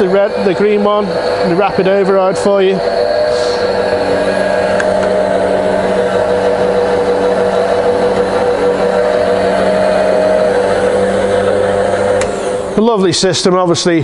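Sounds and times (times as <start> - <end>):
milling machine motor and gear whine: 0.0 - 14.0.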